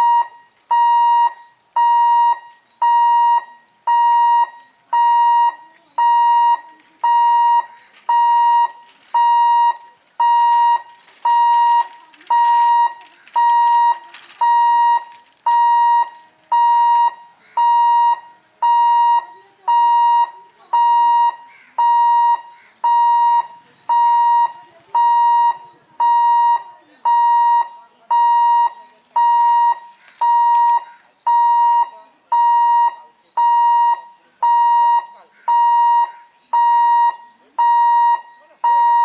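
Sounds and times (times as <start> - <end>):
level crossing alarm beeping: 0.0 - 39.0.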